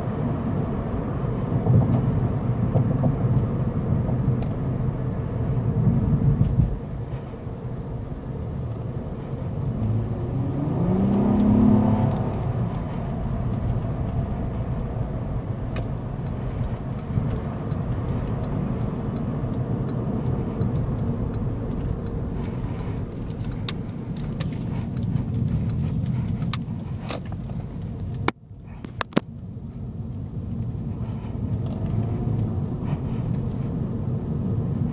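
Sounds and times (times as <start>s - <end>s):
car engine accelerating: 0.0s - 34.9s
road and tyre noise: 0.0s - 34.9s.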